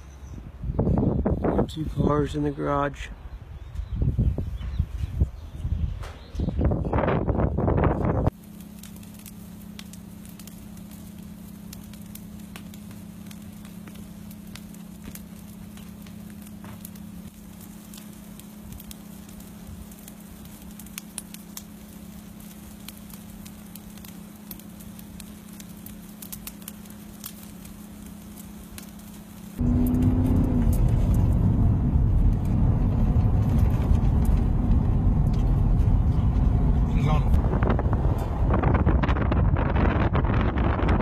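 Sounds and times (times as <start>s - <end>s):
fire crackling and popping: 6.0s - 41.0s
steady low hum: 6.7s - 41.0s.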